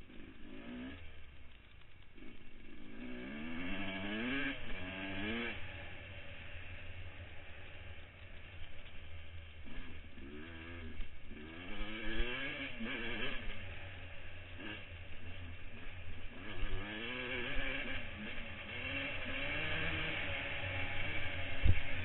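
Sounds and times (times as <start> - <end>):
dirt bike engine revving: 0.0 - 1.2, 2.2 - 22.0.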